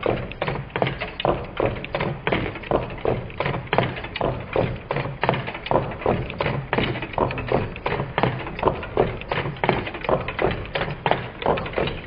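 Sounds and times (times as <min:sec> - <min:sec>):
stirling engine knocking: 0:00.0 - 0:12.0.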